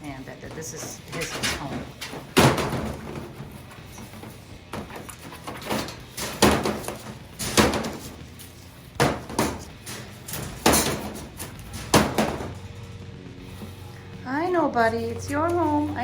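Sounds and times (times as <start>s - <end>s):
toys knocking and clattering: 0.0s - 13.0s.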